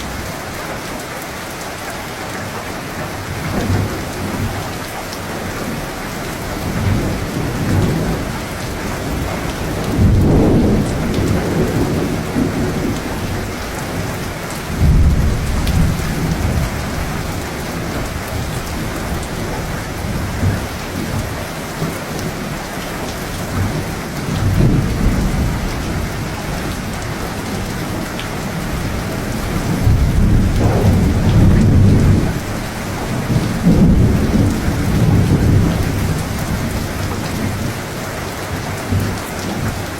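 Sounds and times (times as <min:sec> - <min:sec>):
heavy rain: 0:00.0 - 0:39.9
low thunder rumbling: 0:03.3 - 0:37.9.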